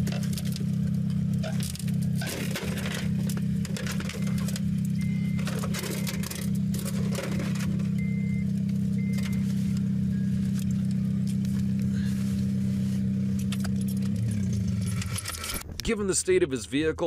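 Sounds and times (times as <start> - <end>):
vehicle engine idling: 0.0 - 15.6.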